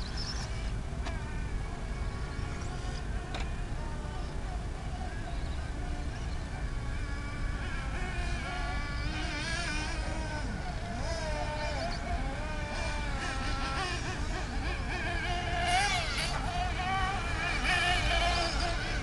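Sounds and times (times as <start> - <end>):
rc car engines buzzing: 0.0 - 19.0.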